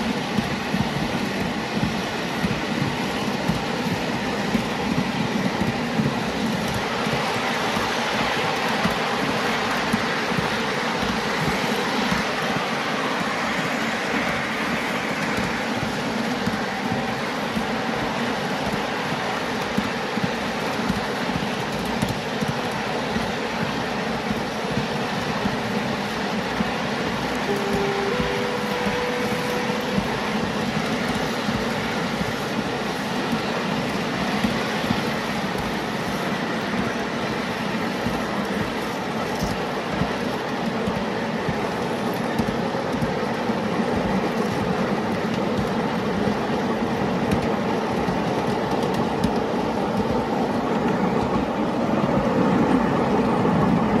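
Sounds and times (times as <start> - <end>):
small wheels rumbling on rail: 0.0 - 54.0.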